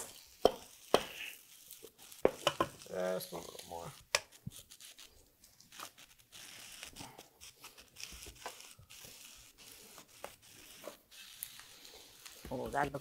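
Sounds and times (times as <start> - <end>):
utensil scraping frying pan: 0.0 - 5.1, 5.7 - 13.0
light hiss: 0.0 - 13.0.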